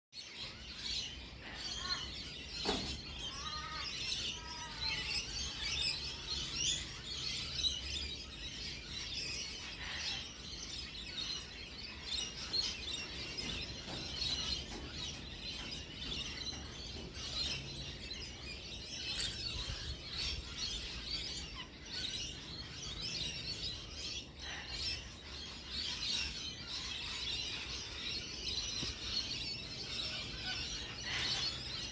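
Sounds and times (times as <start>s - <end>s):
flock of birds chirping: 0.2s - 31.9s.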